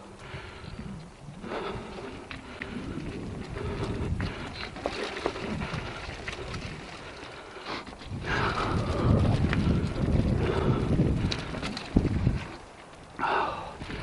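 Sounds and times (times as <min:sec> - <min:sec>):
bike tyres on rocky dirt: 0:00.0 - 0:14.0
bike clicking and rattling: 0:00.1 - 0:14.0.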